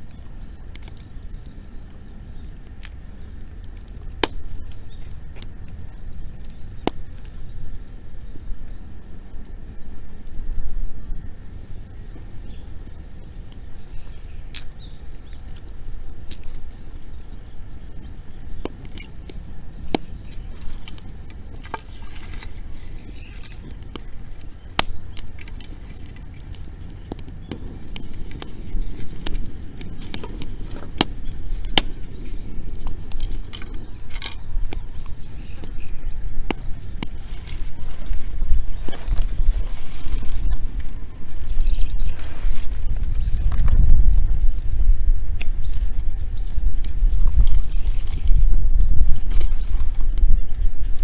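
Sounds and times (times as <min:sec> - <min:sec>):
bonfire crackling: 0:00.0 - 0:51.0.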